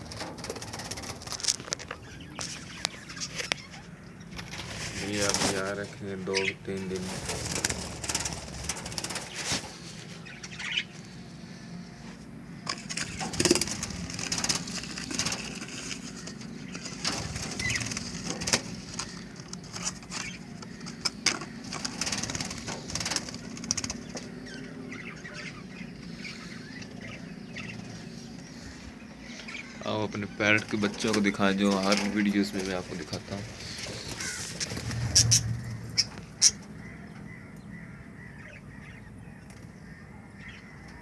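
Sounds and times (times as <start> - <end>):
birds fluttering wings: 0.0 - 11.2, 12.1 - 37.0.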